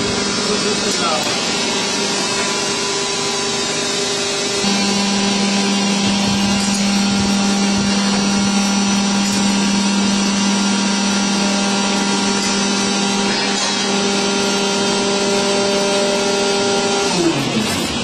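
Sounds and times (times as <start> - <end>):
hydraulic pump hum and whine: 0.0 - 18.0.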